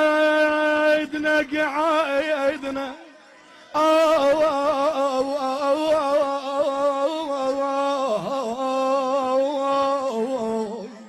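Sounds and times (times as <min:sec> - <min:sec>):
man chanting a lament: 0:00.0 - 0:11.0.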